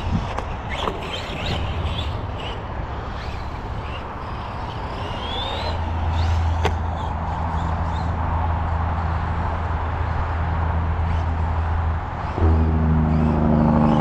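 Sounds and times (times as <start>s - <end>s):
rc truck motor hum: 0.0s - 14.0s.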